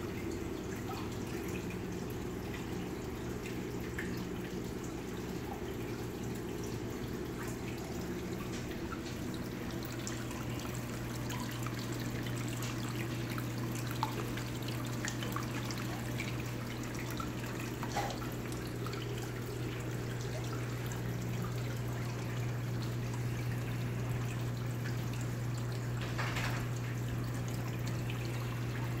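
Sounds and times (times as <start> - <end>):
water drips: 0.0 - 29.0
water trickling and splashing: 0.0 - 29.0.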